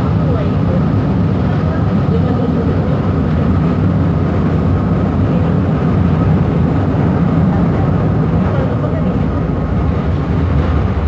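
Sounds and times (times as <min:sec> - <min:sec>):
train cabin low rumble: 0:00.0 - 0:11.0.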